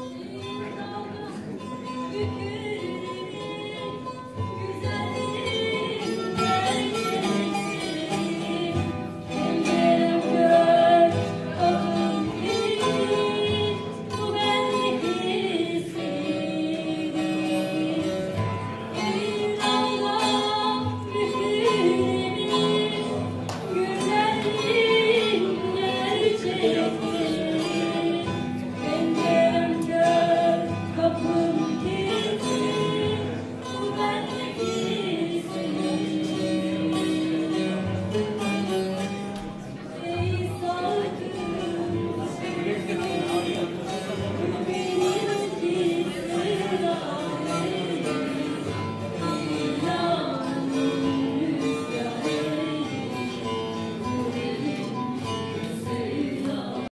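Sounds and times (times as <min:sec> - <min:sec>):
song with plucked strings: 0:00.0 - 0:56.9.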